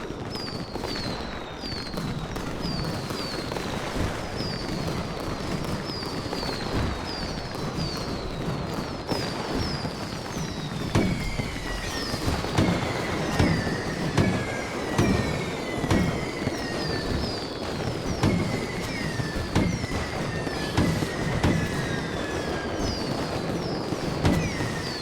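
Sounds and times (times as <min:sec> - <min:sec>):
firework bangs: 0:00.0 - 0:25.0
whistling fireworks: 0:00.0 - 0:25.0.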